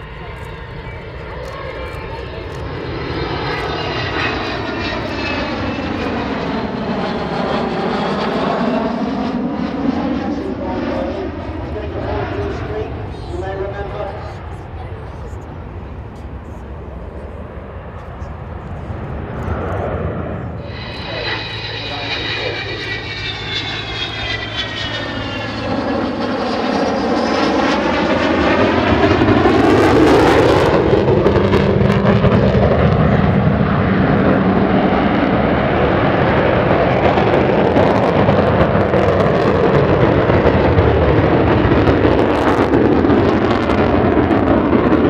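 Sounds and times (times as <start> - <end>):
jet engine whine: 0.0 - 45.0
jet roar: 0.0 - 45.0.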